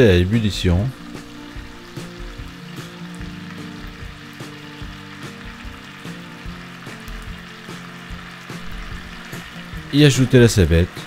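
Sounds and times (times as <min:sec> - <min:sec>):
background music with steady beat: 0:00.0 - 0:11.0
sauce sizzling and bubbling in pan: 0:00.0 - 0:11.0.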